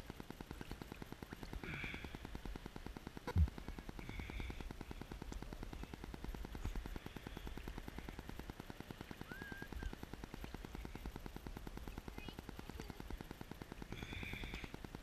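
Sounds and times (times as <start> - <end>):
water crackling clatter: 0.0 - 15.0.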